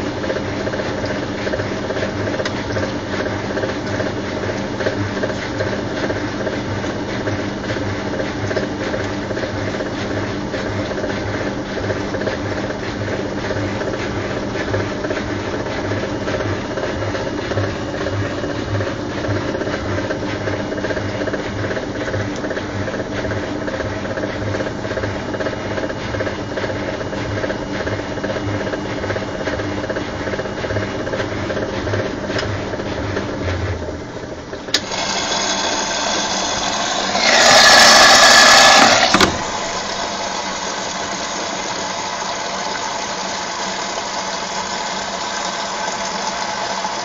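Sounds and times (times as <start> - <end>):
rushing water in washing machine: 0.0 - 47.0
washing machine running: 0.0 - 47.0.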